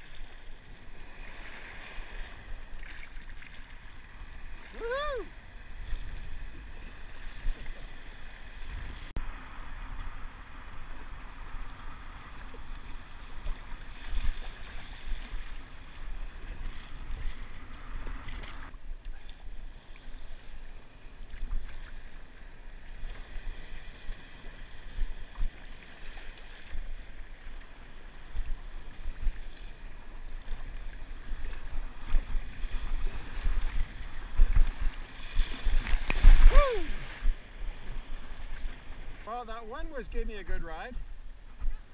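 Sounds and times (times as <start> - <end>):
water sloshing around a kayak: 0.0 - 39.9
small breaking waves: 0.0 - 41.9.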